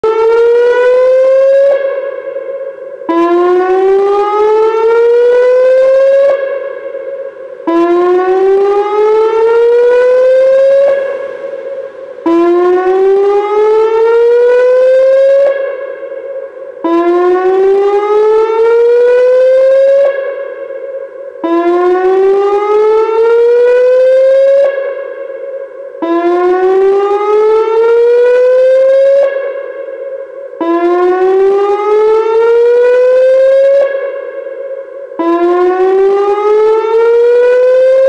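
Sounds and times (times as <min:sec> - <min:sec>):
warning siren whooping: 0:00.0 - 0:38.0.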